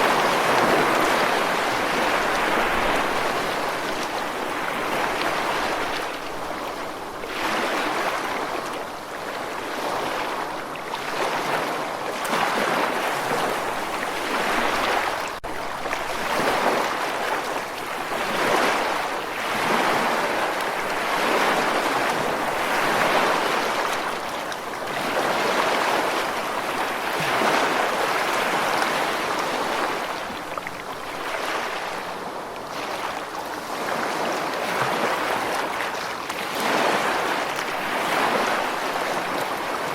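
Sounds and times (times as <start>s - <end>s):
ocean surf washing: 0.0s - 39.9s.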